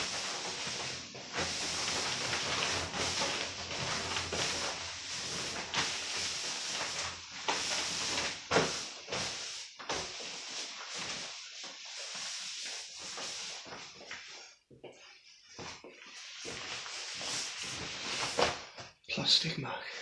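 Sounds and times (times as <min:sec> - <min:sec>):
plastic raincoat rustling: 0:00.0 - 0:18.9.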